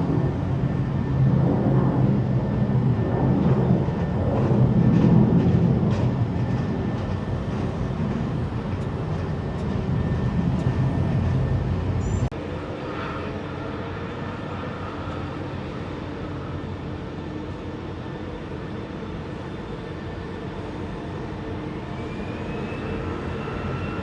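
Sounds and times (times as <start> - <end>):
loud low jet engine rumble: 0.0 - 24.0.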